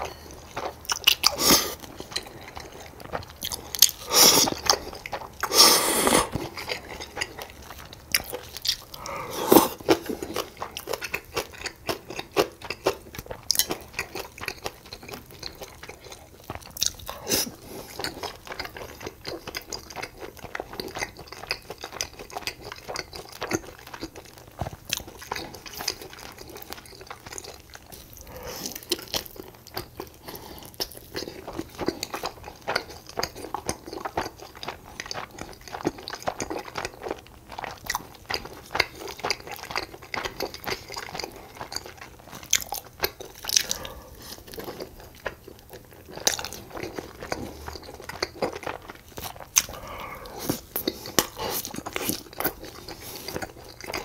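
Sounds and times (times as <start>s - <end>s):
person crunching and chewing food: 0.0s - 54.0s.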